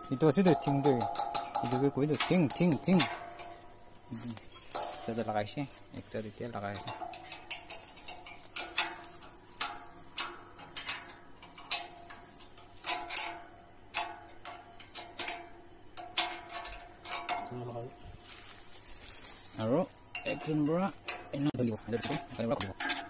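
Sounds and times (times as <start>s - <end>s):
sharp metallic clicks and taps: 0.0s - 17.9s, 19.7s - 23.0s.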